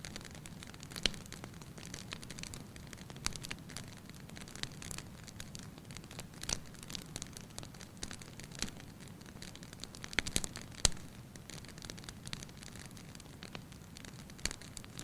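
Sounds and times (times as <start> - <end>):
fire crackling and popping: 0.0 - 15.0
soft low hiss: 0.0 - 15.0.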